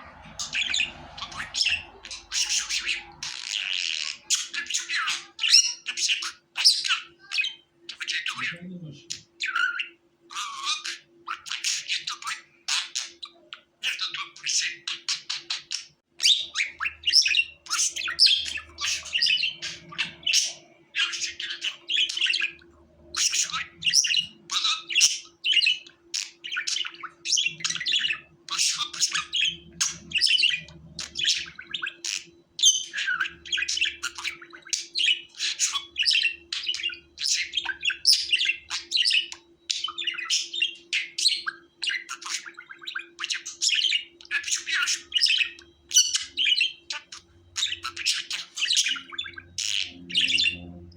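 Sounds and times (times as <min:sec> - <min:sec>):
budgerigar chirping and warbling: 0:00.0 - 0:50.9.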